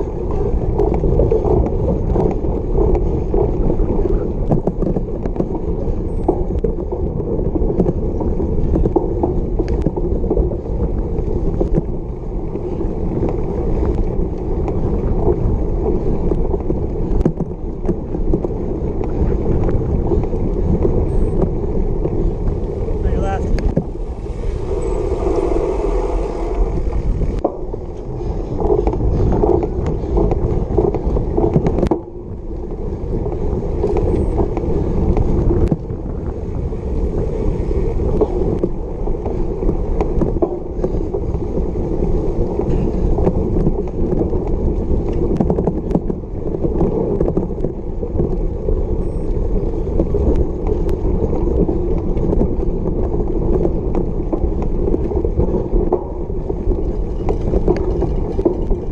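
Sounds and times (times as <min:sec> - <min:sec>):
bike knocks and rattles: 0:00.0 - 0:24.9, 0:26.8 - 0:58.9
wind rush on microphone: 0:00.0 - 0:58.9.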